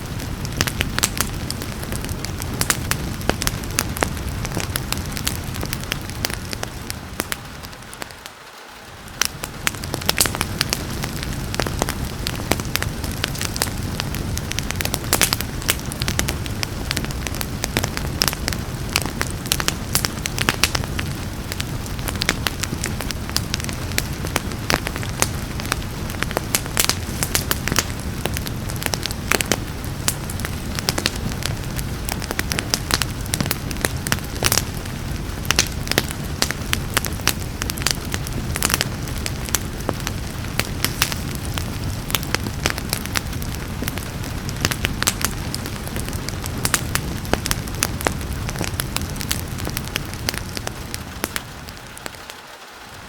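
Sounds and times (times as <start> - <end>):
rain hissing: 0.0 - 53.0
wood fire crackling and popping: 0.0 - 53.0.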